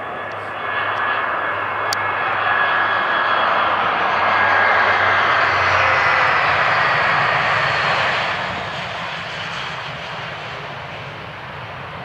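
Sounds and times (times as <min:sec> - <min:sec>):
jet airliner engines passing: 0:00.0 - 0:12.0.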